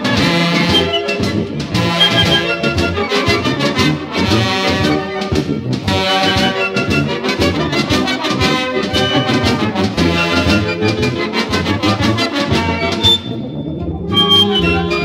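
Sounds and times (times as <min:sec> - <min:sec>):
wind band playing a march: 0:00.0 - 0:15.0.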